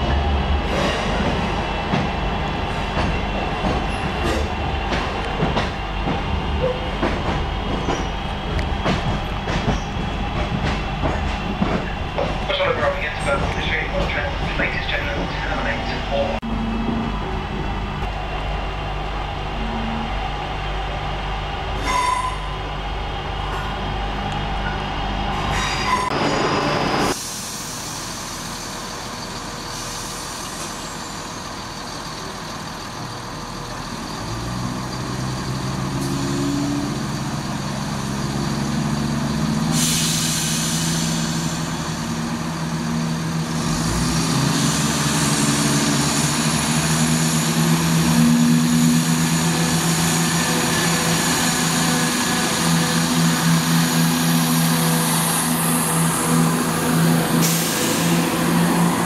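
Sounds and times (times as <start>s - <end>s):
diesel train engines running: 0.0s - 59.0s
train carriage running noise: 0.0s - 59.0s.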